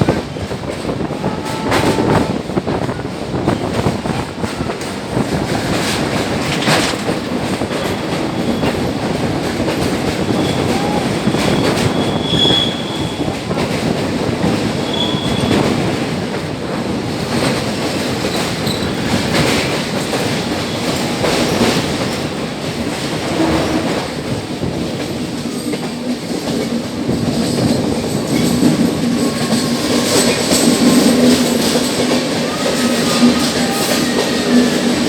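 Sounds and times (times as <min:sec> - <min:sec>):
train wheels clattering on rails: 0:00.0 - 0:35.0.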